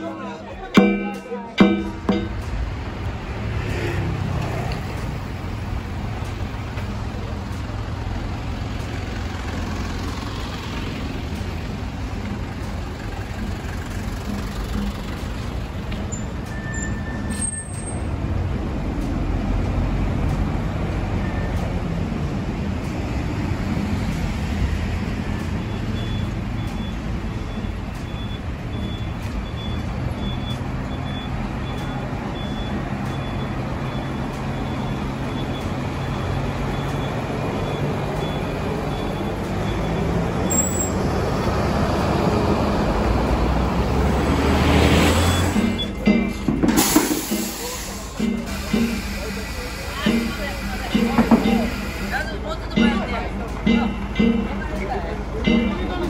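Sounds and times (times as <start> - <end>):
road traffic: 0.0 - 56.0
truck diesel engine running: 0.0 - 56.0.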